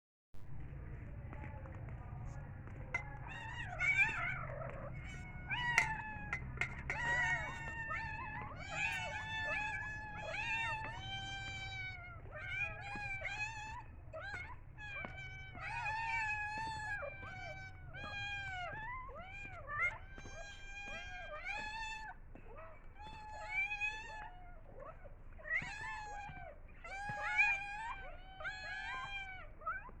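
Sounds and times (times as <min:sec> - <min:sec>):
cat meowing: 0:02.9 - 0:30.0.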